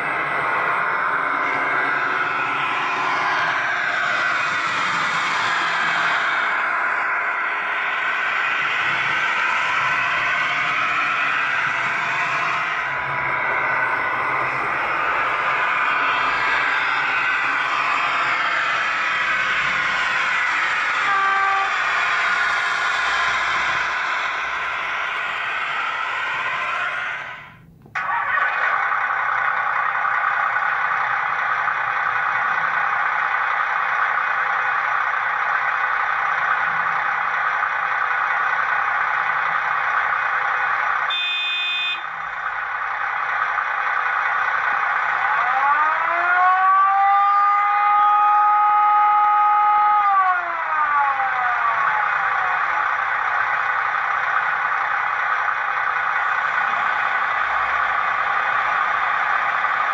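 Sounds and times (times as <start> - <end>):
auxiliary power unit drone: 0.0 - 46.8, 48.2 - 59.9
siren winding down: 0.0 - 59.9.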